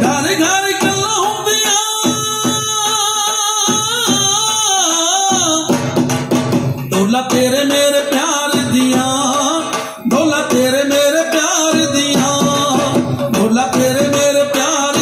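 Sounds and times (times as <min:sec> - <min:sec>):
drum beat: 0:00.0 - 0:15.0.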